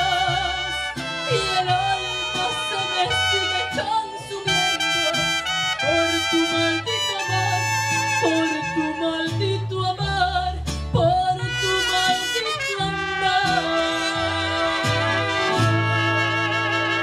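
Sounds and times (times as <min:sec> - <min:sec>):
mariachi band playing live: 0:00.0 - 0:17.0.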